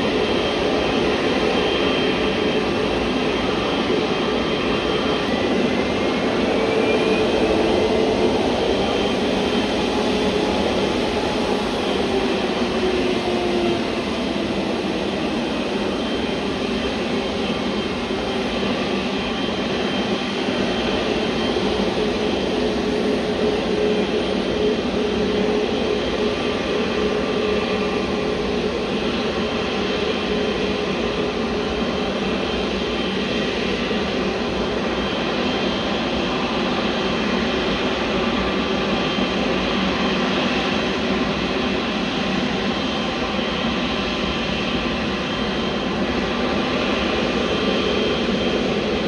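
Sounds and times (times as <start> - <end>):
jet engines rushing and whining: 0.0 - 49.0.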